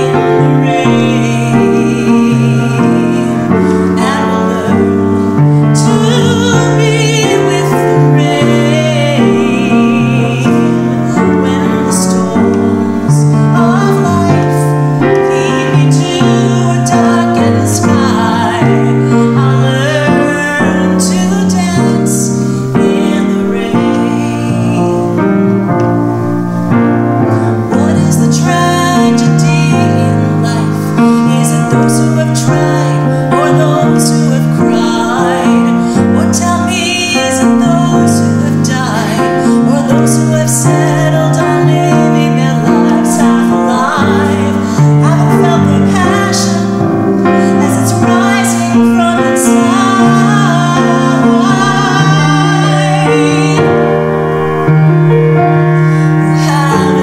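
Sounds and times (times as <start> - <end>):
woman singing with vibrato: 0.0 - 25.6, 26.2 - 57.0
piano chords: 0.0 - 57.0.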